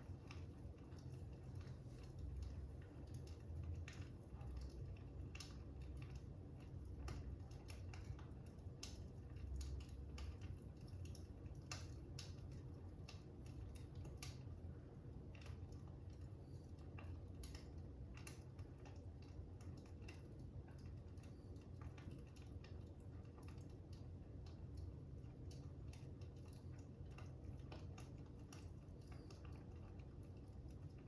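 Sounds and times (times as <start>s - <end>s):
fire crackling and popping: 0.0s - 31.0s
low steady rumble: 0.0s - 31.0s.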